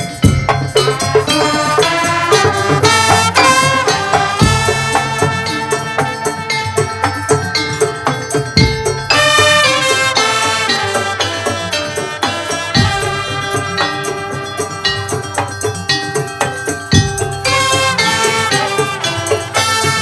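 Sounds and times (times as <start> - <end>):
traditional percussion ensemble: 0.0 - 20.0.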